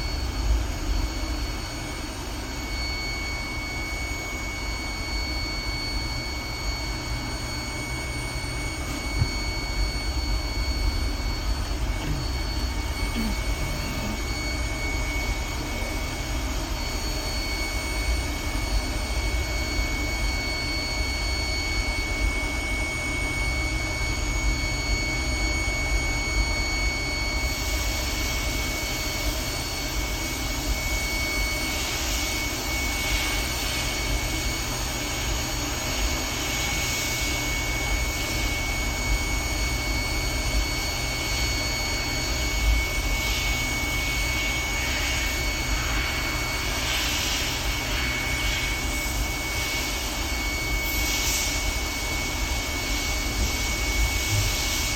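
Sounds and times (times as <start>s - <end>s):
high-pitched whine: 0.0s - 54.9s.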